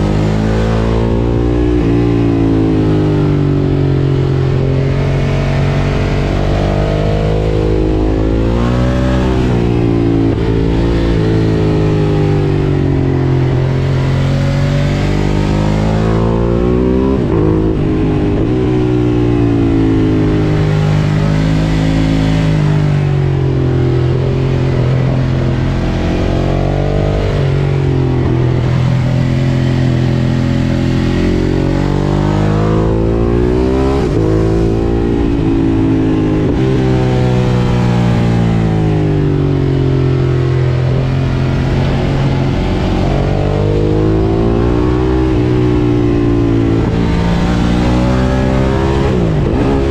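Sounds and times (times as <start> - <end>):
motorcycle engine revving: 0.0 - 49.9
road noise: 0.0 - 49.9
wind noise: 0.0 - 49.9.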